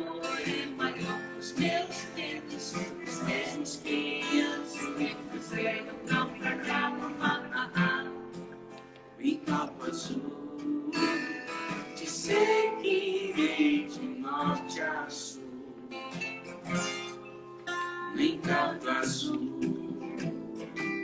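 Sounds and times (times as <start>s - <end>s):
person singing: 0.0s - 16.2s, 18.0s - 21.0s
acoustic guitar strumming: 0.0s - 21.0s.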